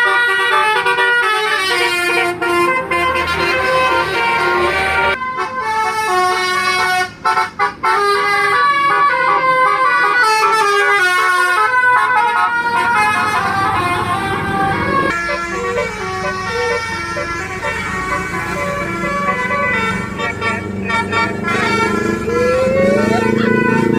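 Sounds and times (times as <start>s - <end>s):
bus engine rumble: 0.0s - 23.9s
musical air horn playing tune: 0.0s - 23.9s.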